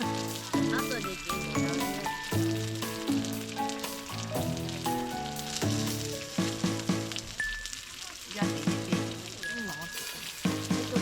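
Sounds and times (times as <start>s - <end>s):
background music: 0.0s - 11.0s
food sizzling in a pan: 0.0s - 11.0s.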